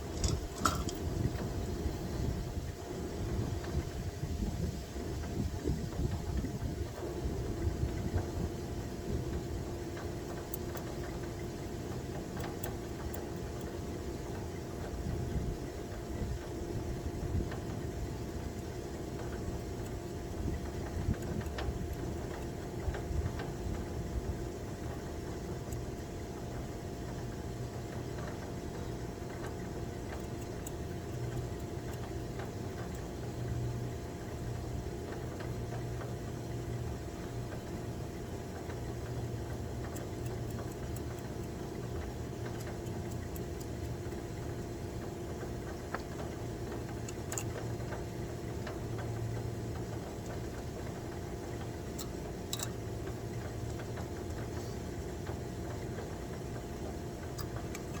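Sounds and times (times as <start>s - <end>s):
machine hum with whine: 0.0s - 58.0s
light clicks and ticks: 9.3s - 16.6s, 17.3s - 58.0s.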